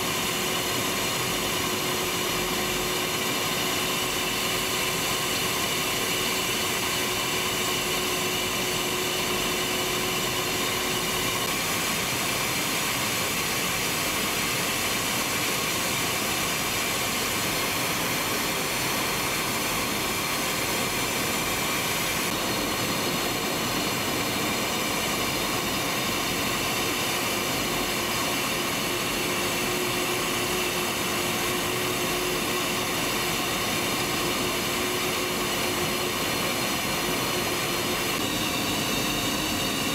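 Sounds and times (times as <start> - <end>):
jet engine and airflow hiss: 0.0 - 39.9.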